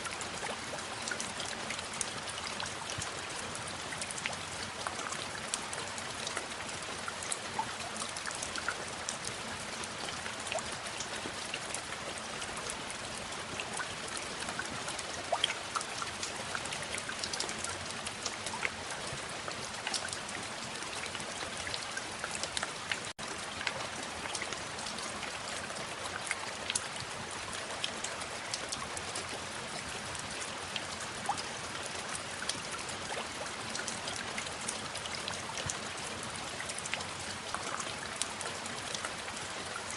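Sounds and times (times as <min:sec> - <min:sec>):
rain falling: 0:00.0 - 0:39.9
raindrops ticking: 0:00.0 - 0:39.9.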